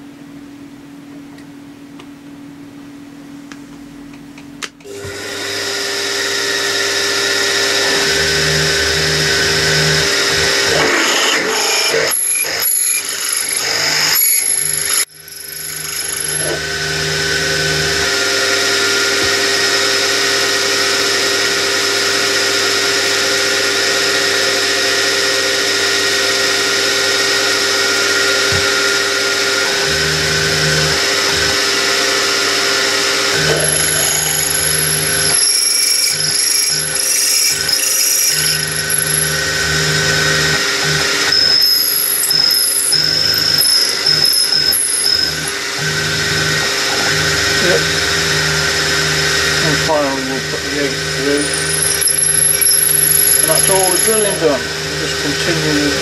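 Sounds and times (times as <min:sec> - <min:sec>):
drilling machine motor whine: 0:04.8 - 0:56.0
rough drill cutting noise: 0:04.9 - 0:56.0.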